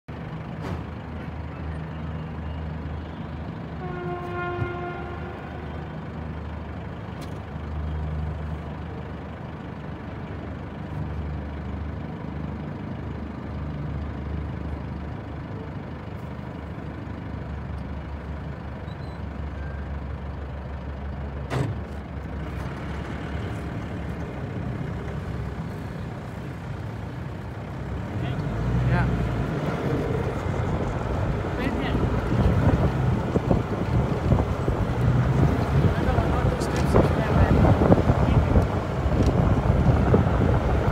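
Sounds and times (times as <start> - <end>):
vehicle engine running: 0.1 - 40.9.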